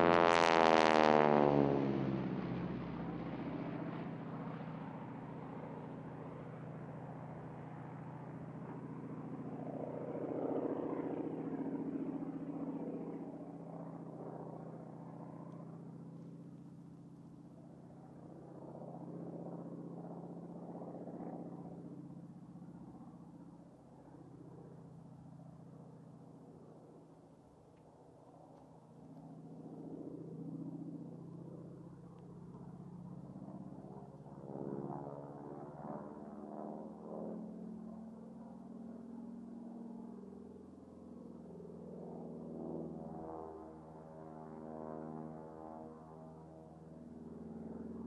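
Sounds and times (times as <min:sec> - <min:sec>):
propeller plane engine droning: 0:00.0 - 0:48.0.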